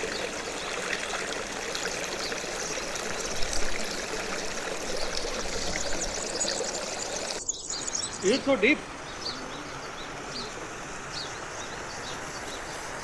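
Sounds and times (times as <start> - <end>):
stream of water running: 0.0 - 13.0.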